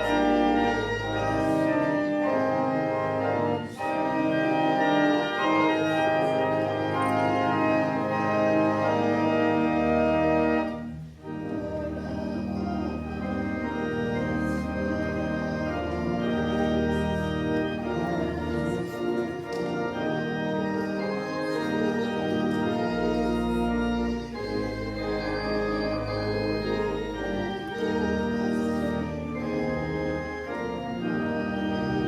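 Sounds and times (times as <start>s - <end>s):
church organ chords: 0.0s - 32.0s.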